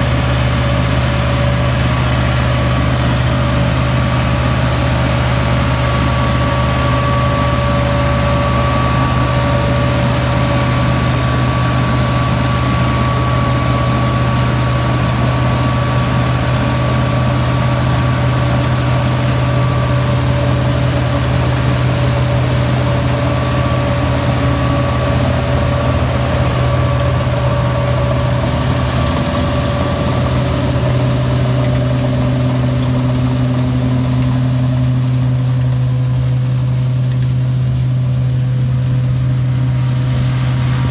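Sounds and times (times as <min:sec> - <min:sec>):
straw chopper whine: 0:00.0 - 0:40.9
tractor engine running under load: 0:00.0 - 0:40.9.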